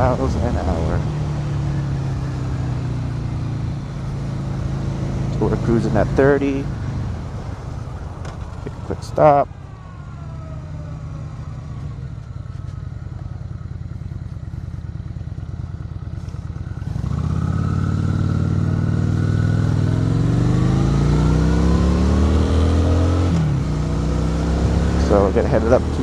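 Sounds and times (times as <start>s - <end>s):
motorcycle engine: 0.0s - 26.0s.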